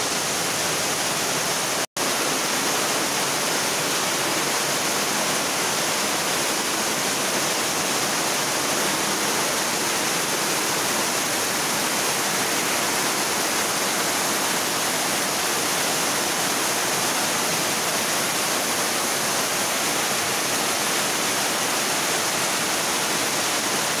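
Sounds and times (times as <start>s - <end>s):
heavy rain pouring: 0.0s - 24.0s
water running off a roof: 0.0s - 24.0s.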